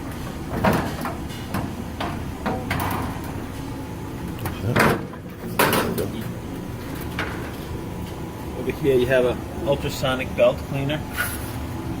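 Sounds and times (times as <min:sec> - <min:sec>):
industrial furnace running: 0:00.0 - 0:12.0.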